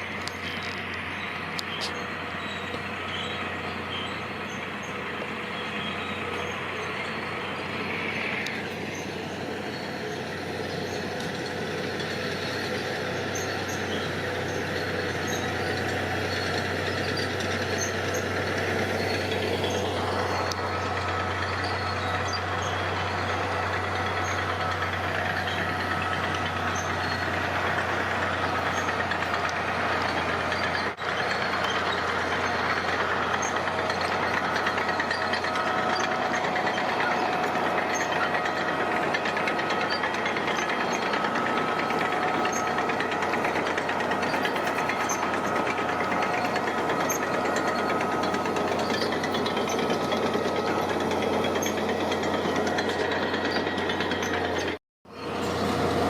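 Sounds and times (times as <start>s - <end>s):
diesel construction machinery running: 0.0s - 56.0s.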